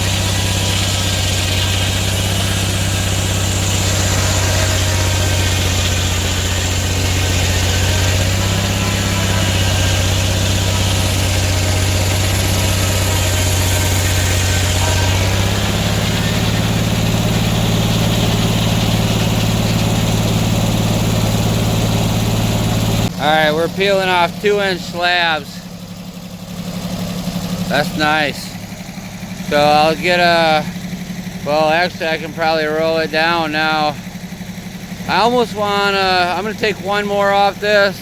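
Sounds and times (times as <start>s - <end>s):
saw blade cutting log: 0.0s - 25.7s, 26.8s - 38.0s
sawmill engine running under load: 0.0s - 38.0s.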